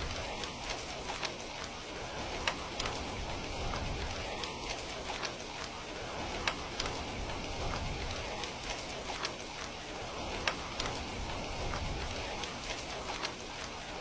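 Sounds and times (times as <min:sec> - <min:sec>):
heavy rain falling: 0:00.0 - 0:14.0
raindrops tapping a surface: 0:00.0 - 0:14.0.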